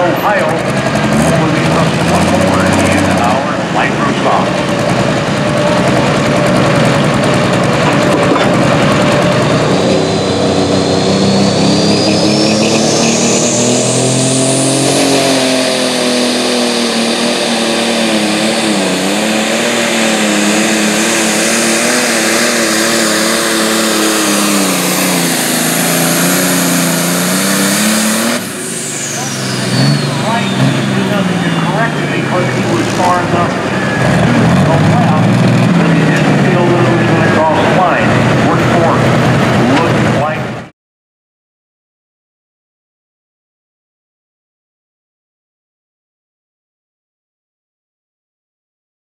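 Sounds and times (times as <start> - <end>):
another engine running: 0.0 - 40.7
high turbo whine: 0.0 - 40.7
tractor diesel engine at full throttle: 0.0 - 40.7.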